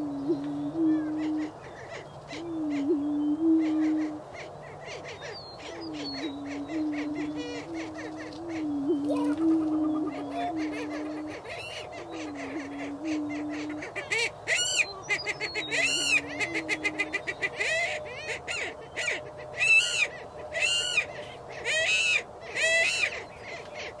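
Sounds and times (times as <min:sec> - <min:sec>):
birds whooping and cackling: 0:00.0 - 0:24.0.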